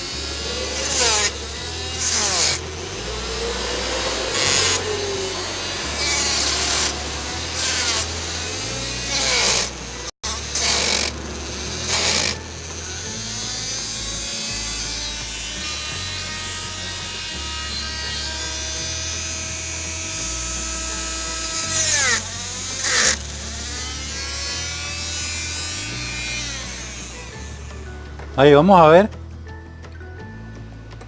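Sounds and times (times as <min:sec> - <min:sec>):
steady mechanical hum: 0:00.0 - 0:27.7
small power tool bursts: 0:00.0 - 0:28.0.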